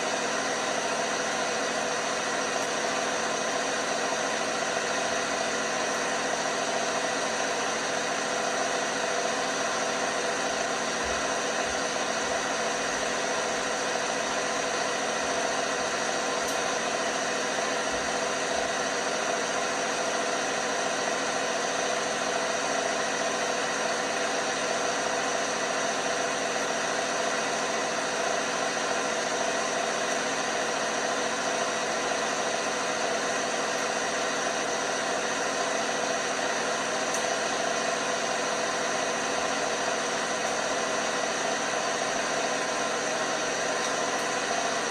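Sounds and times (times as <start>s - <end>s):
washing machine whirring hum: 0.0s - 44.9s.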